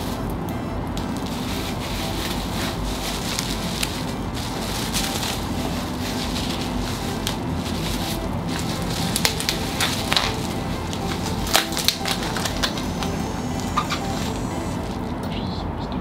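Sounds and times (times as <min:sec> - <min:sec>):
bubble wrap crinkling: 0:00.0 - 0:15.2.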